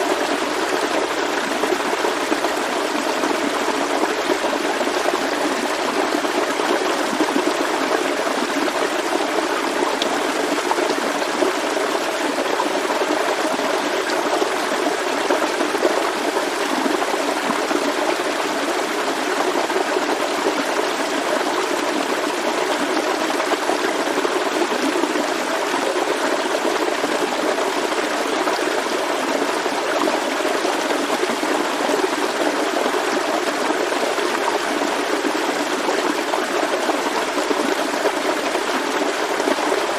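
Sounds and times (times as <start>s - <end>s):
forest stream flowing: 0.0s - 39.9s.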